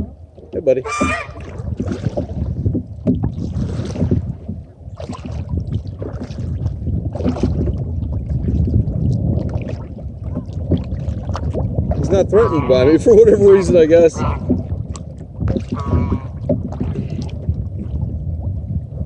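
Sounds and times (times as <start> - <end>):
paddle splashing in water: 0.0 - 19.0
wind on microphone: 0.0 - 19.0.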